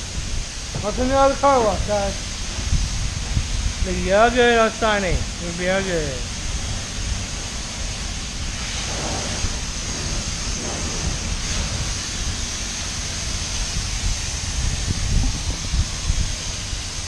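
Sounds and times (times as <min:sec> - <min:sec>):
pressure washer spraying water: 0:00.0 - 0:17.0.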